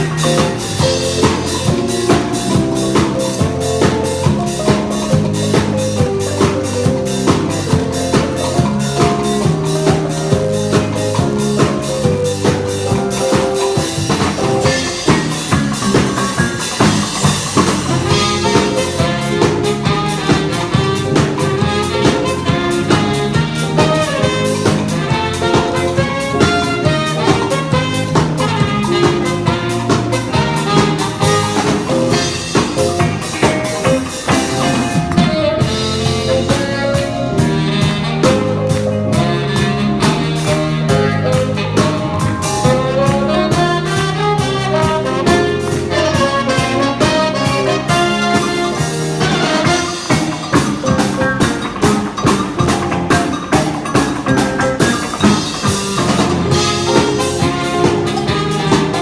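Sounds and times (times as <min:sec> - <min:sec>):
brass horns: 0:00.0 - 0:59.0
drum kit beat: 0:00.0 - 0:59.0.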